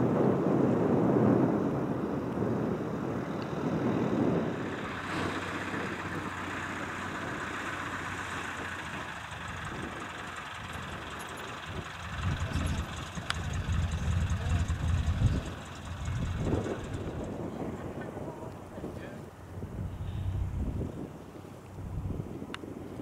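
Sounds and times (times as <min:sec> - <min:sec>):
propeller aircraft engine running: 0:00.0 - 0:23.0
wind buffeting microphone: 0:00.0 - 0:23.0.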